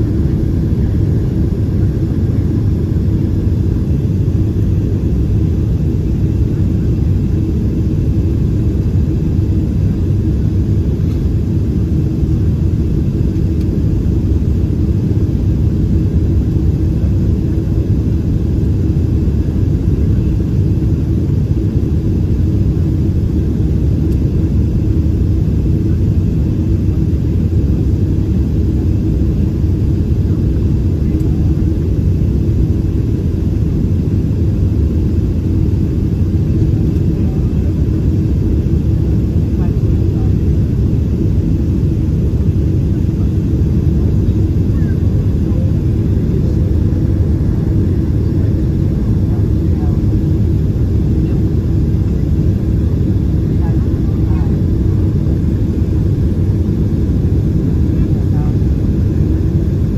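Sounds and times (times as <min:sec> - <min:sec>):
deep engine and air rumble: 0:00.0 - 0:59.9.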